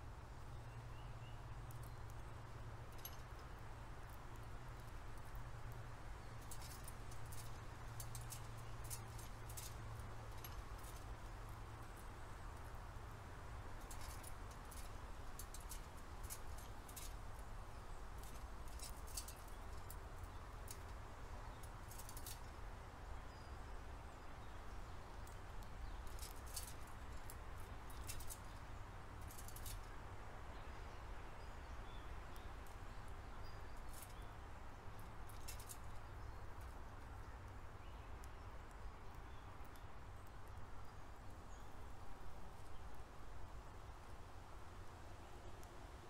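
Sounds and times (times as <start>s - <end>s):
birds pecking and cracking seed: 0.0s - 46.0s.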